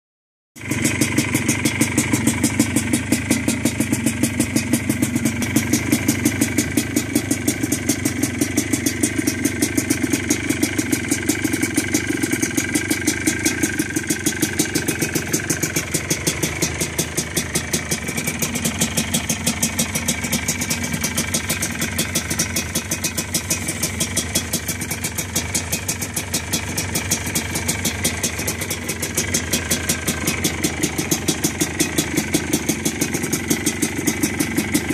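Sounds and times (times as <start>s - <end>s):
two-stroke engine idling: 0.6s - 34.9s.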